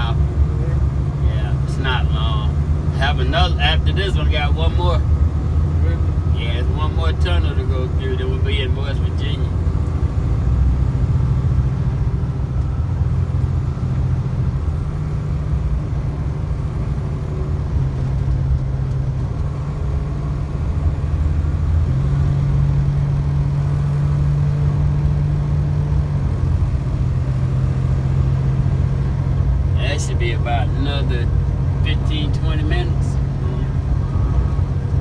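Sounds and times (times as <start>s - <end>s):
truck engine droning: 0.0s - 35.0s.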